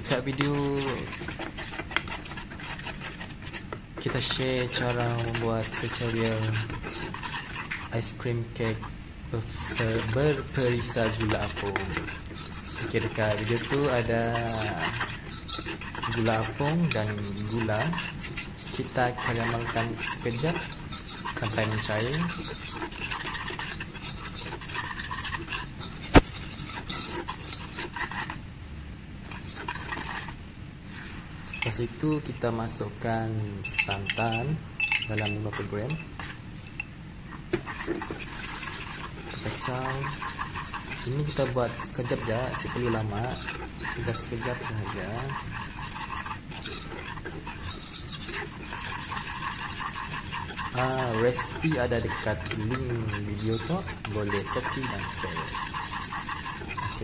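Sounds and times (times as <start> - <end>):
spoon stirring and scraping saucepan: 0.0 - 28.4, 29.2 - 57.0.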